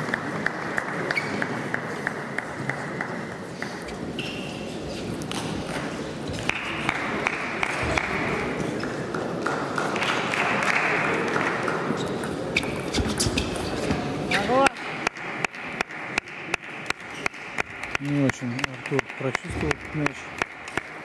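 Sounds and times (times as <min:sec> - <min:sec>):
sports hall noise: 0:00.0 - 0:21.0.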